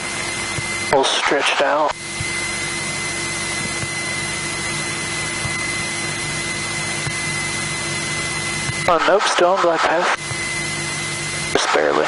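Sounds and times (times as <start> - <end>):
aircraft engine drone: 0.0 - 12.0
thin high whine: 0.0 - 12.0.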